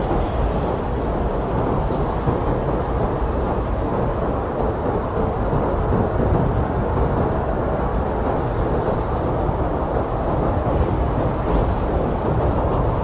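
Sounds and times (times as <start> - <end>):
low rumbling blizzard wind: 0.0 - 13.0.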